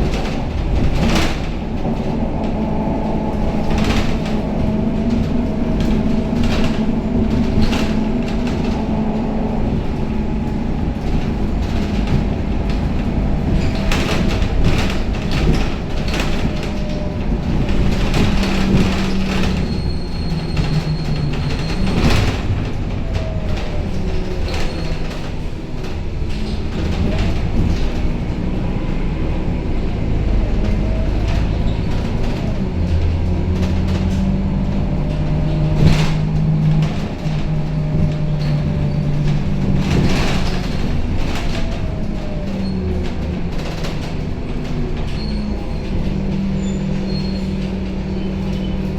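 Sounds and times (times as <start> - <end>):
bus body rattling: 0.0 - 48.9
bus engine drone: 0.0 - 48.9.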